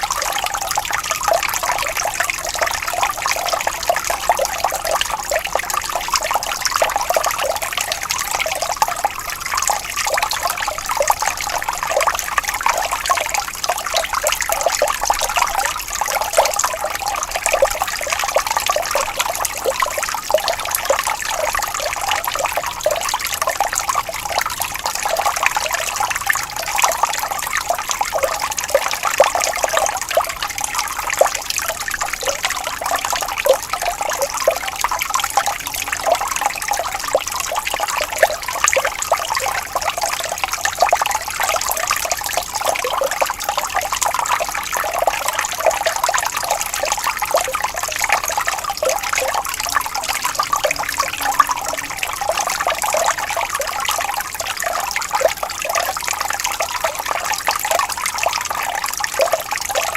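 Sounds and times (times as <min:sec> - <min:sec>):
water trickling and gurgling: 0:00.0 - 0:59.9.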